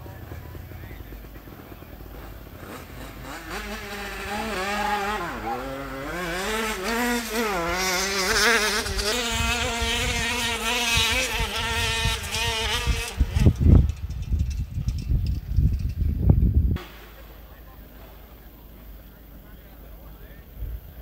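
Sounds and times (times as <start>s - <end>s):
moped engine revving: 0.0s - 20.4s.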